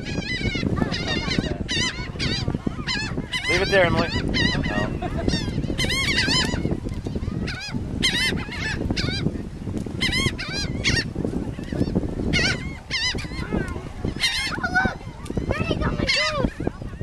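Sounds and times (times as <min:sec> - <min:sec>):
birds calling high-pitched: 0:00.0 - 0:06.8, 0:10.0 - 0:17.0.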